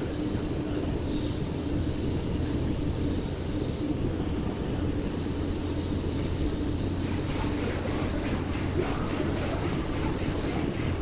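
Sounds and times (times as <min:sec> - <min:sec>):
machine high whine: 0:00.0 - 0:11.0
machine low hum: 0:00.0 - 0:11.0.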